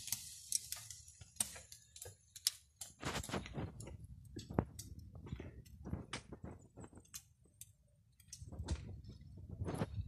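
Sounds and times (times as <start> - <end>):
meat fat crackling and popping: 0.0 - 10.0.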